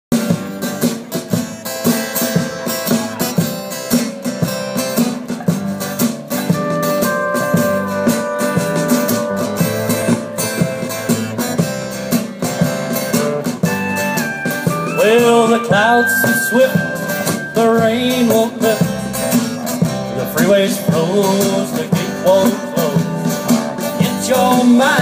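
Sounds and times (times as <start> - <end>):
acoustic guitar strumming: 0.1 - 25.0.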